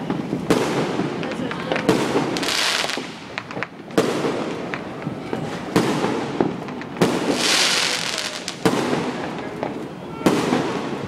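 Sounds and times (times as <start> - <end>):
hissing crackle: 0.0 - 9.9
firework bangs: 0.0 - 11.0
firework crackling: 0.0 - 11.0.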